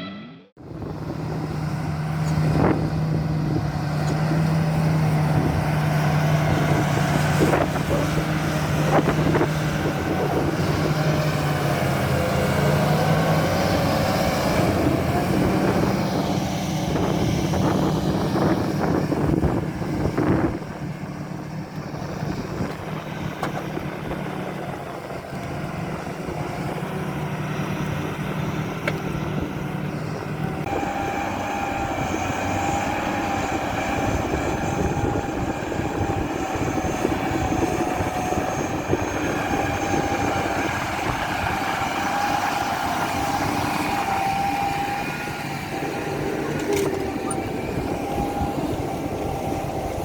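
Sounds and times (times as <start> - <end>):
tractor engine running under load: 0.6 - 50.0.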